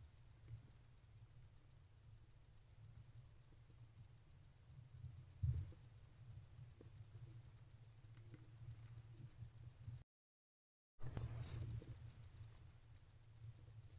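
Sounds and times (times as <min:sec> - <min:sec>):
faint low hum: 0:00.0 - 0:10.0, 0:11.0 - 0:13.9.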